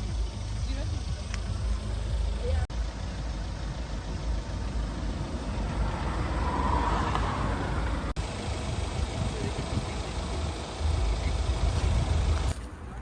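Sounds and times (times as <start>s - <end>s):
car engine running at low revs: 0.0s - 12.5s.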